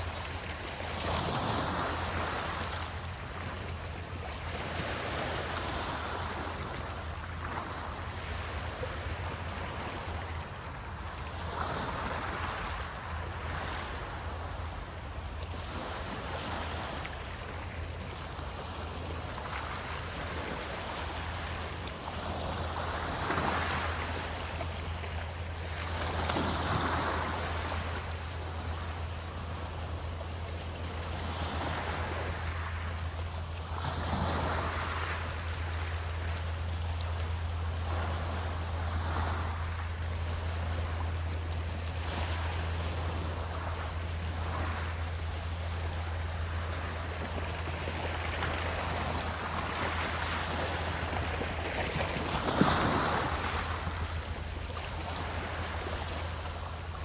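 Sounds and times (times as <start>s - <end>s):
sea waves breaking: 0.0s - 57.0s
steady low hum: 0.0s - 57.0s.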